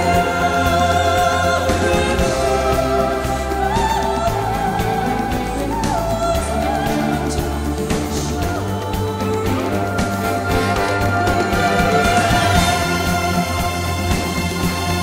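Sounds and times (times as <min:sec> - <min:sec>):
person singing long wavering notes: 0:00.0 - 0:15.0
steady bass: 0:00.0 - 0:15.0.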